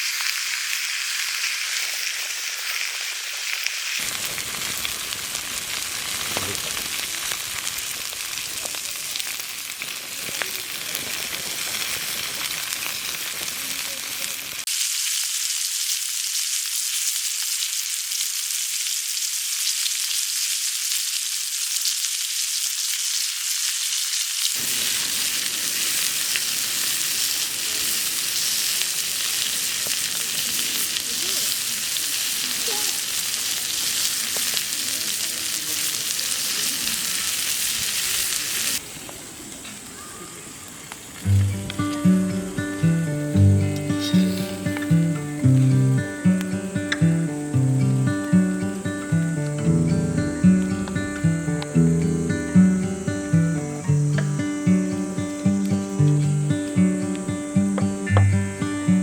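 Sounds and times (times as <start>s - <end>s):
meat sizzling in a pan: 0.0s - 59.0s.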